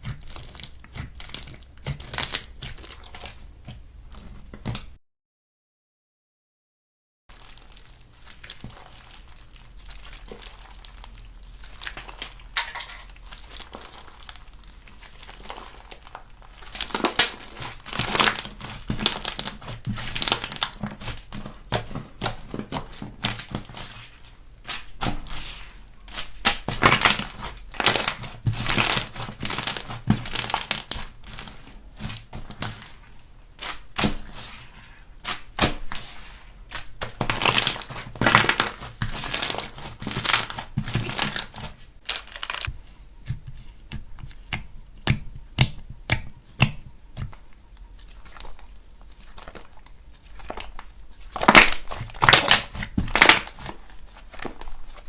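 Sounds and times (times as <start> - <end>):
slime squished by hands: 0.0 - 5.0, 7.3 - 55.0.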